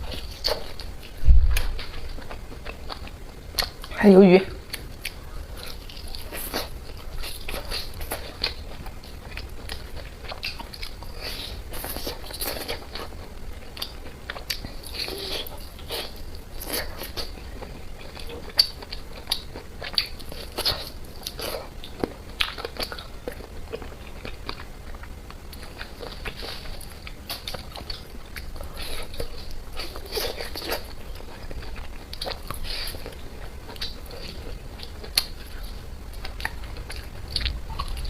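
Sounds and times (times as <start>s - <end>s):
person chewing food: 0.0s - 4.0s, 4.6s - 38.0s.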